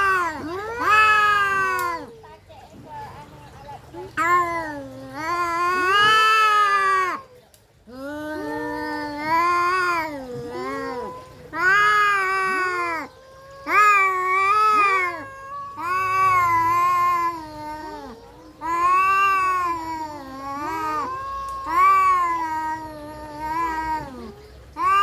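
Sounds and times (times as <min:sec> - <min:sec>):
cats yowling: 0:00.0 - 0:02.2, 0:04.0 - 0:25.0.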